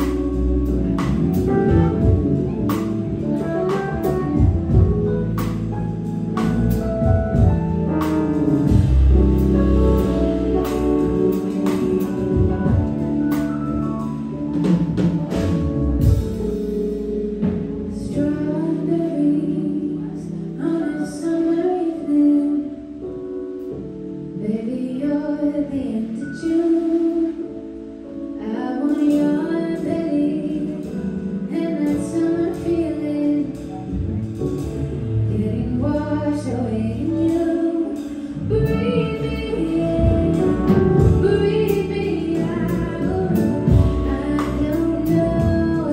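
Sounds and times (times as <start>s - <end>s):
live band playing: 0.0s - 24.6s, 26.3s - 45.9s.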